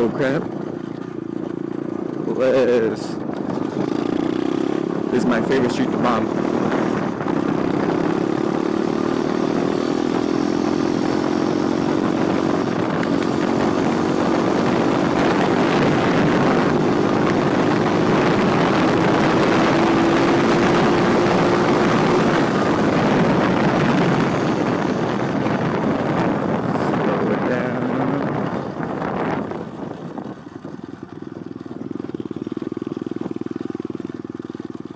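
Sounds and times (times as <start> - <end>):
wind rush on microphone: 0.0 - 34.6.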